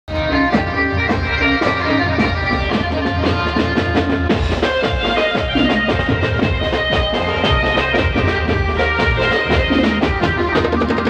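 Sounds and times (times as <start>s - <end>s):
dhol drums beating: 0.1s - 11.0s.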